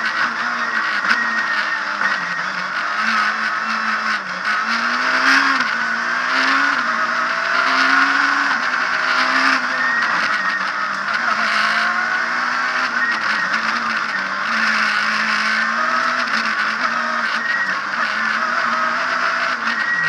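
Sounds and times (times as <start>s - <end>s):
car engine revving: 0.0s - 20.0s
road noise: 0.0s - 20.0s.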